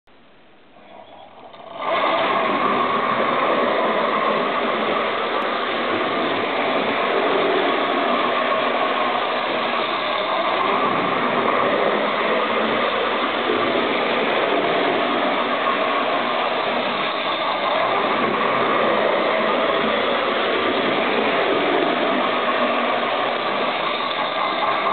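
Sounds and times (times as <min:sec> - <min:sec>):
model train motor whirring: 0:00.8 - 0:24.9.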